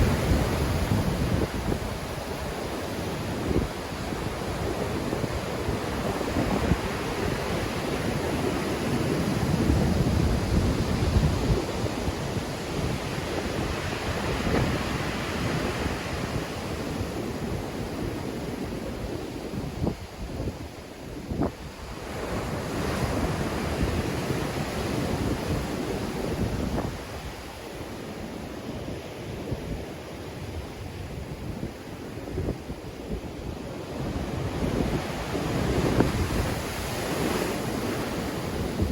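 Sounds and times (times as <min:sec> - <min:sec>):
wind buffeting microphone: 0:00.0 - 0:27.8, 0:29.4 - 0:38.9.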